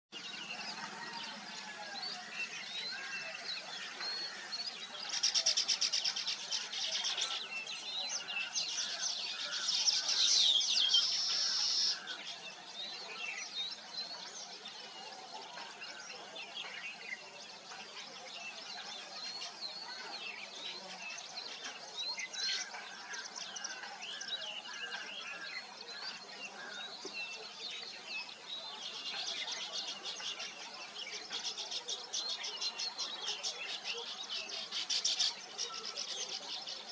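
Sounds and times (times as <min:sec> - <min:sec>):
weaver birds chirping and chattering: 0:00.1 - 0:36.9.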